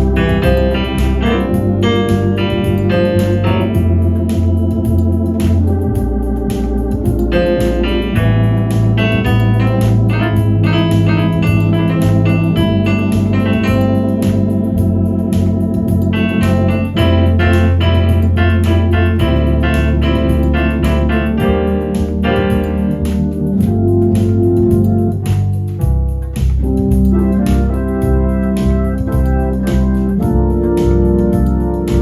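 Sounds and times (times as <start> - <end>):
automatic rhythm accompaniment beat: 0.0 - 32.0
electronic organ playing chords: 0.0 - 32.0.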